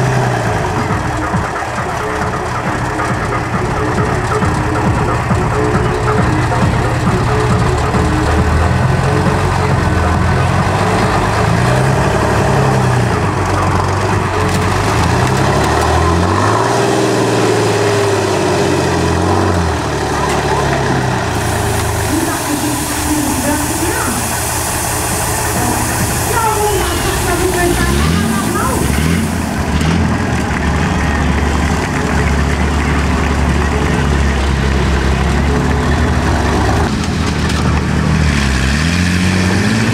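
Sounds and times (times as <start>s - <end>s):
large engine revving: 0.0s - 39.9s.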